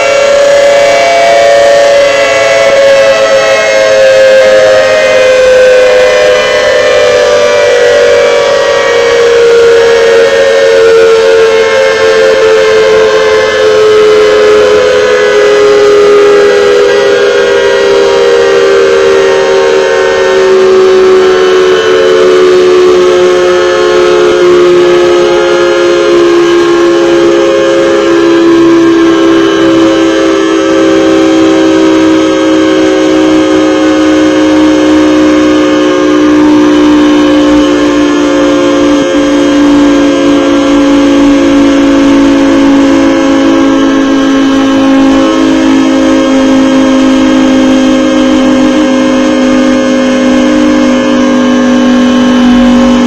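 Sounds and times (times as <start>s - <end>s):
dual-tone mechanical siren: 0.0s - 53.0s.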